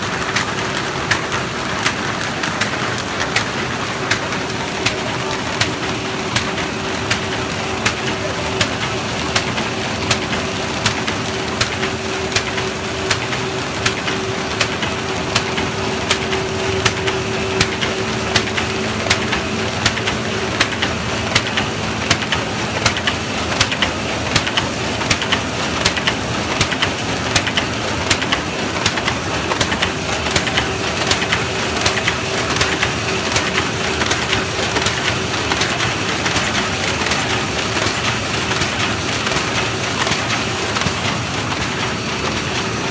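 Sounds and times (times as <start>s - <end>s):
machine clattering: 0.0s - 42.9s.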